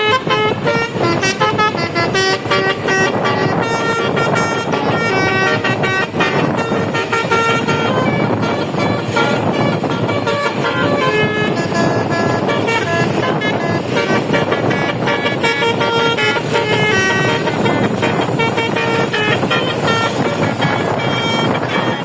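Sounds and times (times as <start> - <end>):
multi-tone bus horn melody: 0.0 - 22.0
noisy background: 0.0 - 22.0.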